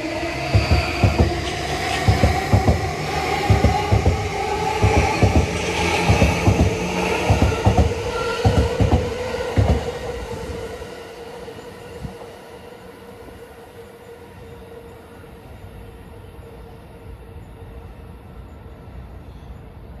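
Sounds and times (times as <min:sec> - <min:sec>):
electric train pulling away: 0:00.0 - 0:19.8.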